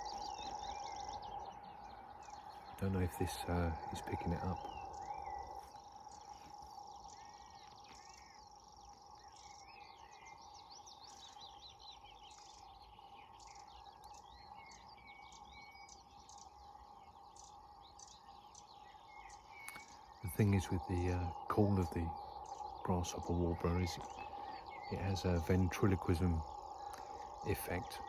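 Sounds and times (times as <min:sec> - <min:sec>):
high reeling bird trill: 0:00.0 - 0:28.0
small birds chirping: 0:00.0 - 0:28.0.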